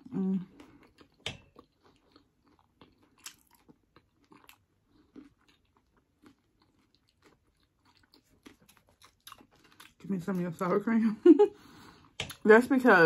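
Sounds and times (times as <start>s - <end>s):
chewing crunchy taco: 0.0s - 10.8s.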